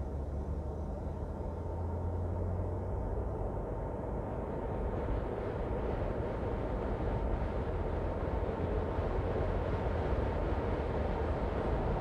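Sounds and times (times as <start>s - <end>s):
car road noise: 0.0s - 12.0s.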